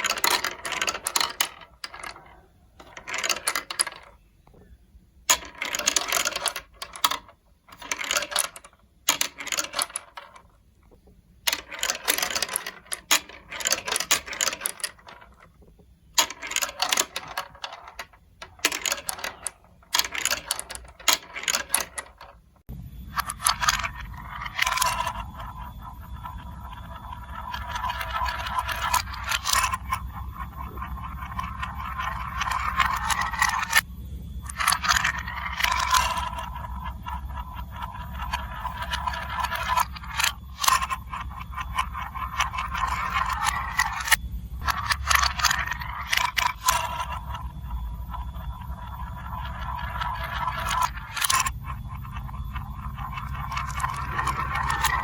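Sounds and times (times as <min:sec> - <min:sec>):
marbles clicking on track: 0:00.0 - 0:04.3, 0:05.3 - 0:22.5, 0:23.1 - 0:55.0
marbles rolling rattle: 0:00.0 - 0:04.3, 0:05.3 - 0:55.0.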